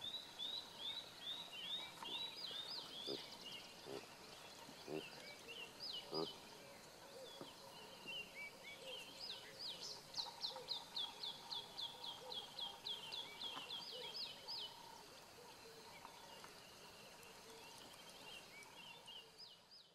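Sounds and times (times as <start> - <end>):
soft bird calls: 0.0 - 19.3.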